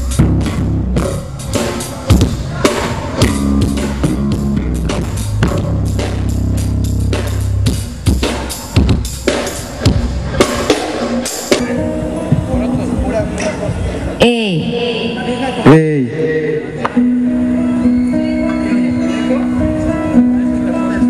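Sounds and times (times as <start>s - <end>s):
live band playing instrumental: 0.0s - 21.0s.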